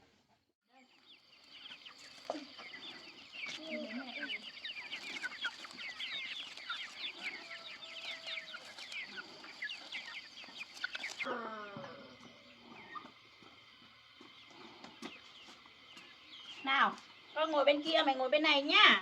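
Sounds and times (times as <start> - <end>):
chickens clucking: 0.8 - 19.0.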